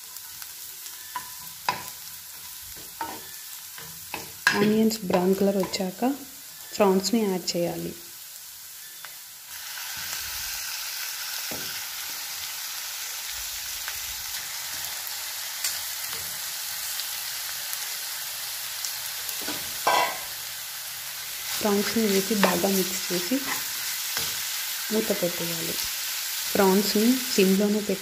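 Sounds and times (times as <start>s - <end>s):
prawns sizzling in hot oil: 0.0s - 28.0s.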